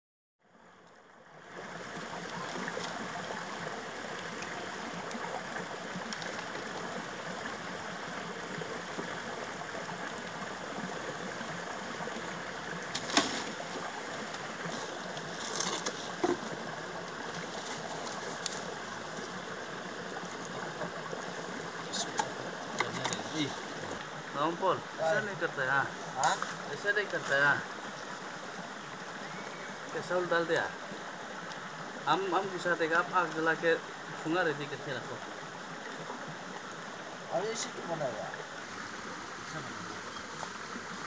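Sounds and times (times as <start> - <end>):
stream rushing: 0.5 - 41.0.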